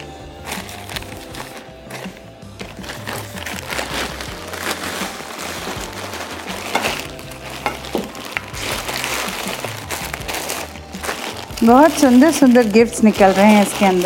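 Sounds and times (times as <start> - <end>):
plastic bag rustling and tearing: 0.0 - 14.0.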